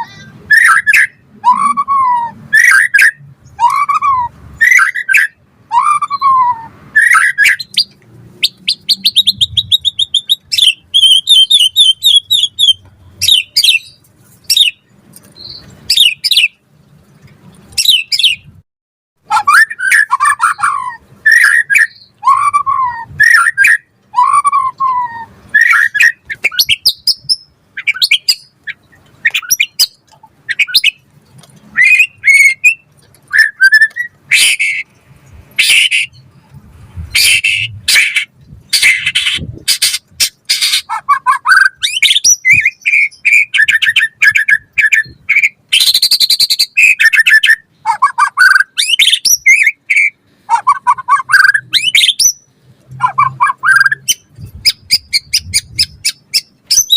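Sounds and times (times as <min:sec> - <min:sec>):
songbird singing whistles and trills: 0:00.0 - 0:16.6, 0:17.7 - 0:18.5, 0:19.3 - 0:31.0, 0:31.7 - 0:34.9, 0:35.6 - 0:36.3, 0:37.1 - 0:56.9.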